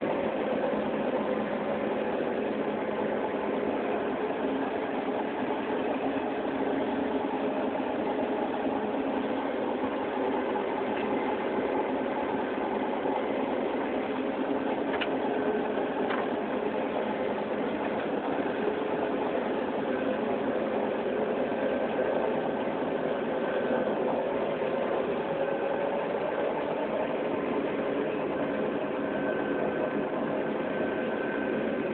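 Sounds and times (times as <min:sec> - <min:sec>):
combine harvester running: 0:00.0 - 0:31.9.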